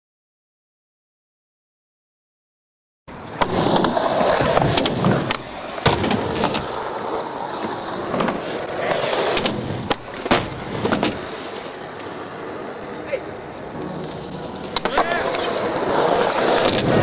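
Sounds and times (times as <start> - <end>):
skateboard wheels rolling on concrete: 3.1 - 17.0
skateboard clacking on ground: 3.2 - 17.0.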